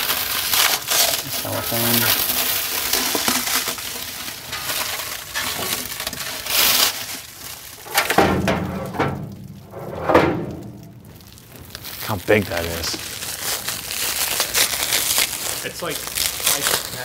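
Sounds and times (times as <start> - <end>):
plastic wrap crinkling and rustling: 0.0 - 17.0.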